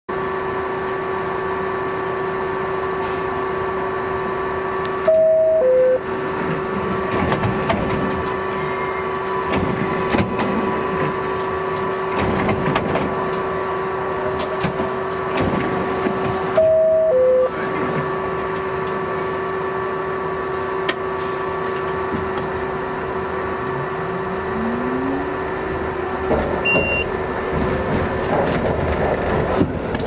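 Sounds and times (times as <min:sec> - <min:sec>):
train rumbling: 0:00.1 - 0:30.0.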